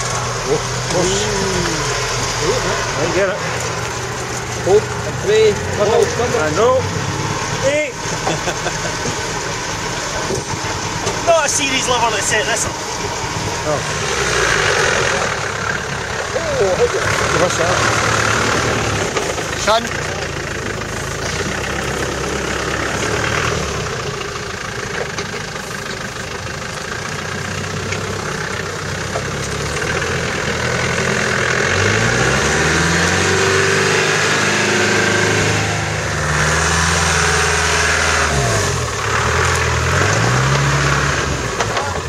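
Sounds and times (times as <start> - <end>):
off-road vehicle engines revving: 0.0 - 42.0.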